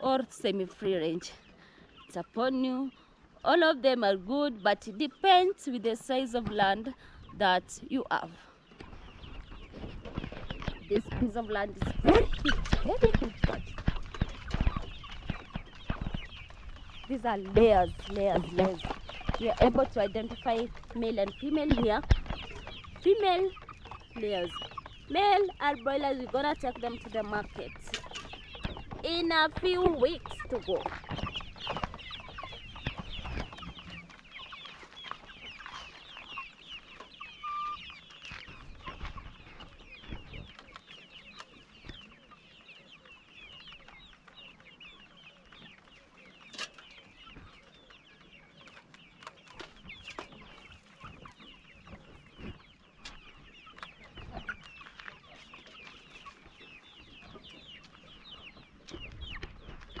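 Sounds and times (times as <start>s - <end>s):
chicks cheeping and clucking: 0.0s - 60.0s.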